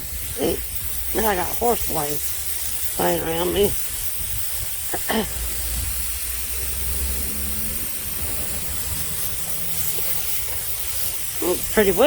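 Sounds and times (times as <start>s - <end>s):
bandsaw hiss: 0.0s - 12.0s
low engine rumble: 0.0s - 12.0s.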